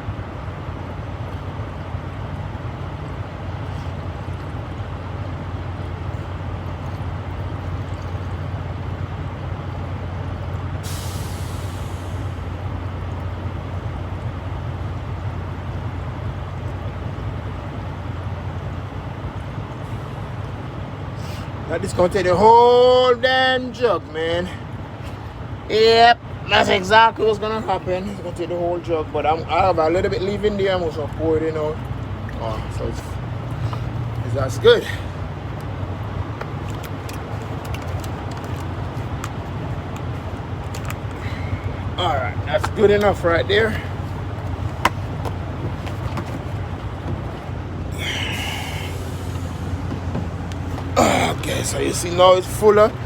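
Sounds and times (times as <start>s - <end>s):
truck diesel engine idling: 0.0s - 53.0s.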